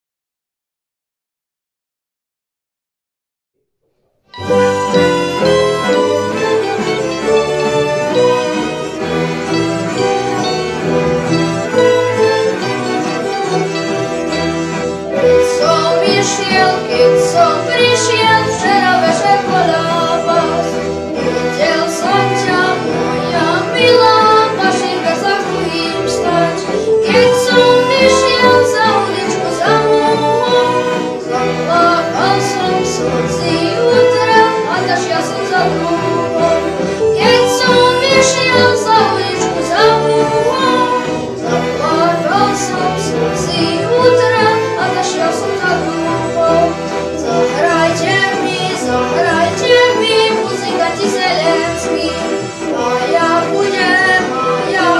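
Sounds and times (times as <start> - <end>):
folk ensemble playing: 4.3 - 54.9.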